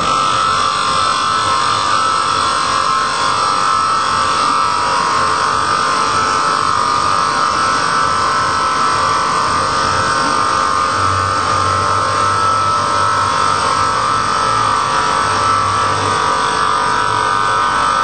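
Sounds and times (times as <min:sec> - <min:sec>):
router spindle whining: 0:00.0 - 0:18.0
wood being milled: 0:00.0 - 0:18.0.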